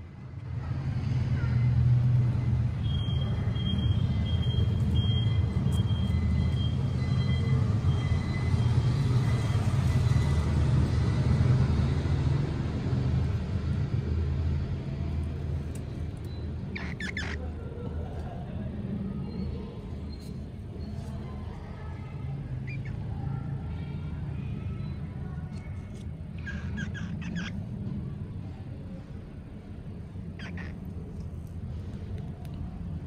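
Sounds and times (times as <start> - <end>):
low rumble of outdoor noise: 0.0 - 33.0.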